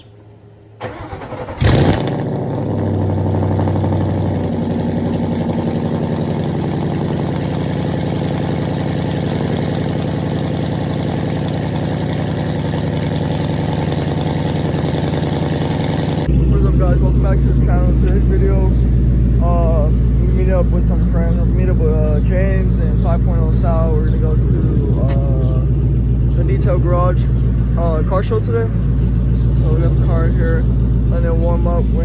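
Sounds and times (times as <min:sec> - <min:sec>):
car engine starting and idling: 0:00.6 - 0:32.0.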